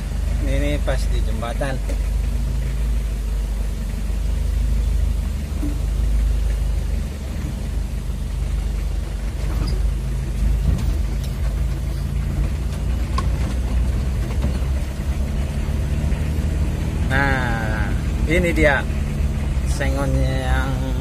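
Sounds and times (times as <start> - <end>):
pickup engine running: 0.0 - 21.0
road noise: 0.0 - 21.0.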